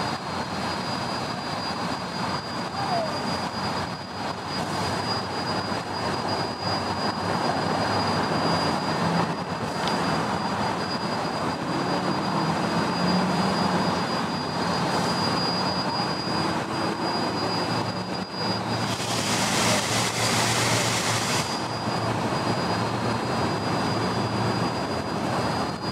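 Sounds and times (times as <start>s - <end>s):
bright rush of steam: 0.0s - 25.8s
steam hissing: 0.0s - 25.9s
thin high whine: 0.0s - 25.9s.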